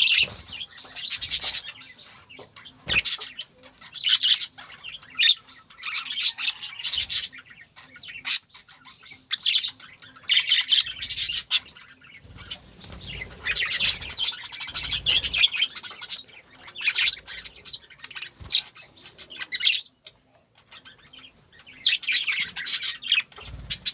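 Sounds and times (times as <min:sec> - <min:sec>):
budgerigars chirping: 0:00.0 - 0:23.9.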